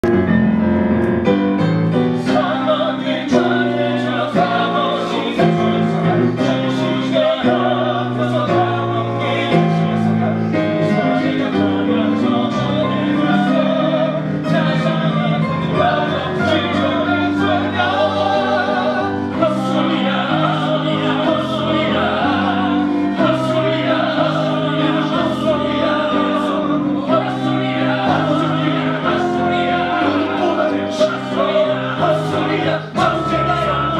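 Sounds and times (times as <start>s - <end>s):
instrumental accompaniment: 0.0s - 33.9s
voices singing together: 1.9s - 33.9s.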